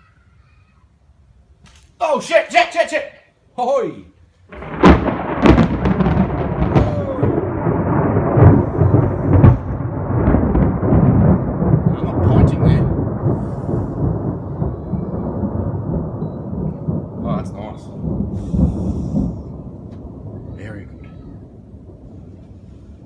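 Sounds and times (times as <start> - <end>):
thunder cracking and rumbling: 4.5 - 23.0.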